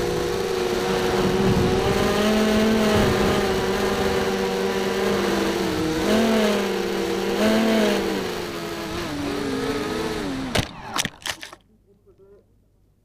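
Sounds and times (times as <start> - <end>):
drone motors whining: 0.0 - 11.6.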